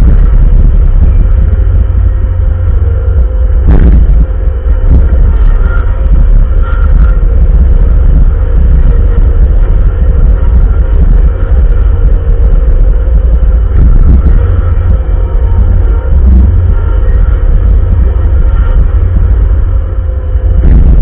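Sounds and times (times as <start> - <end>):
diesel engine rumbling: 0.0 - 21.0
faint steady whine: 0.0 - 21.0.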